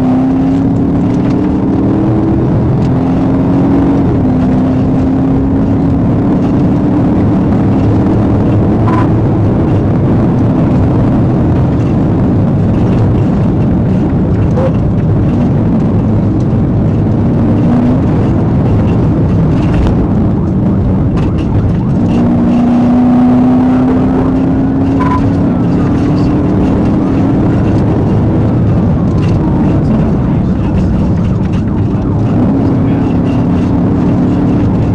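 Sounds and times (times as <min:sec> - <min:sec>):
car engine revving: 0:00.0 - 0:34.9
road and wind noise: 0:00.0 - 0:34.9.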